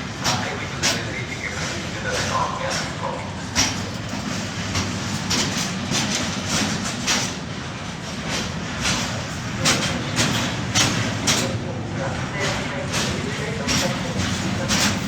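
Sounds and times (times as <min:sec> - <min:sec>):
train low rumble: 0:00.0 - 0:15.0
train wheels clattering over rail joints: 0:00.0 - 0:15.0.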